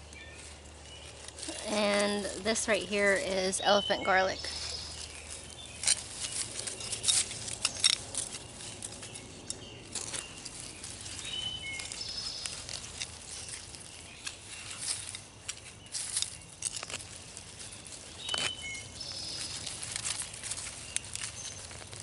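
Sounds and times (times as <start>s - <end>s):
bird chirps: 0.0s - 16.7s, 17.4s - 22.0s
dry soil and plants rustling: 0.0s - 22.0s.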